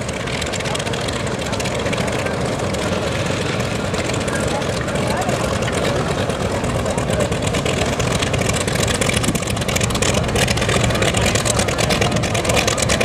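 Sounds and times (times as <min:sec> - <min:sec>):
piston radial engine running: 0:00.0 - 0:13.0.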